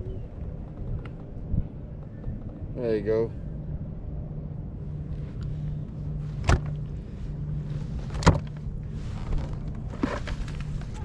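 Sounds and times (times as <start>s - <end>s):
wind on microphone: 0.0s - 9.9s.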